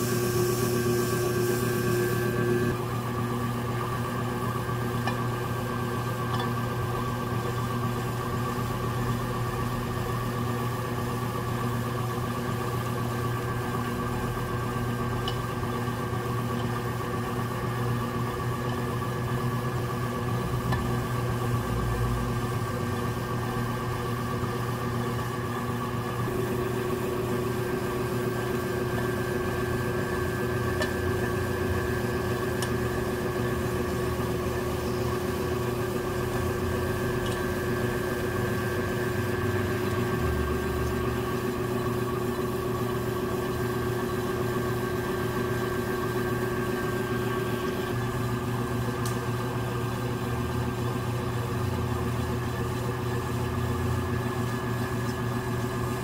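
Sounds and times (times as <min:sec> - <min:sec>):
potter's wheel motor humming: 0:00.0 - 0:56.0.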